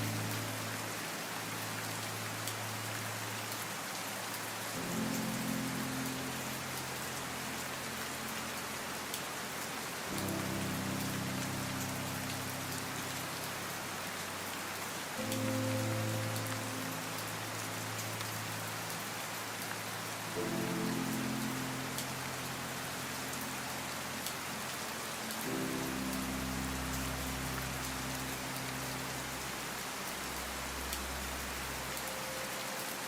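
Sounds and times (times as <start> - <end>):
soft low music pad: 0.0 - 33.0
steady rain falling: 0.0 - 33.0.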